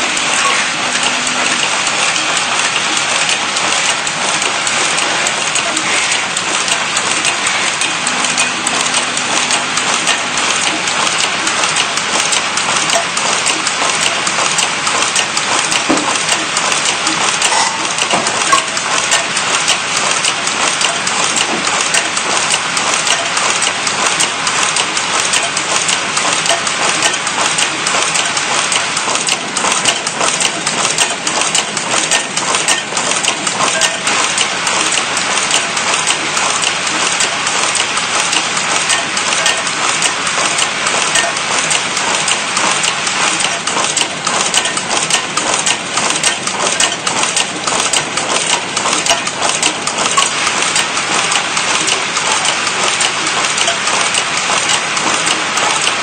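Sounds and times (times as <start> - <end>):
machine clattering with rapid clicks: 0.0 - 56.0.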